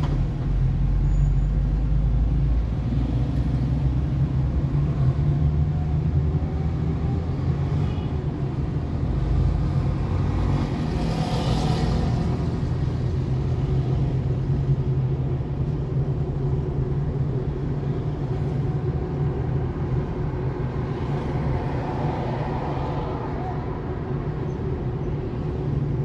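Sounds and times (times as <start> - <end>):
car engine and tyre drone: 0.0 - 26.0.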